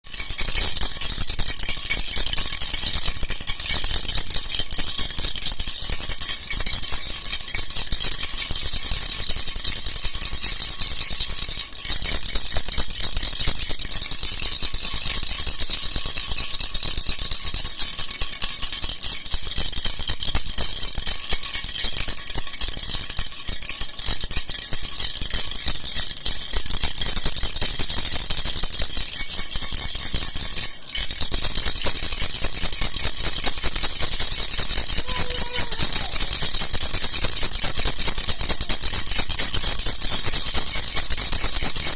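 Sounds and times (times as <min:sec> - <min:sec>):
baby rattle bells jingling: 0:00.1 - 0:41.9.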